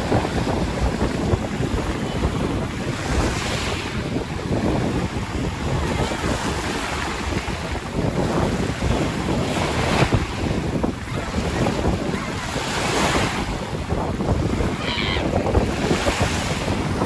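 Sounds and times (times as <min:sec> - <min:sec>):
waves washing onto shore: 0:00.0 - 0:17.0
wind buffeting microphone: 0:00.0 - 0:17.0.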